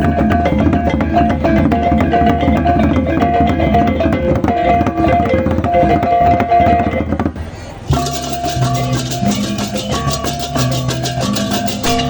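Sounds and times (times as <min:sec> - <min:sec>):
gamelan music: 0:00.0 - 0:07.2, 0:07.8 - 0:12.0.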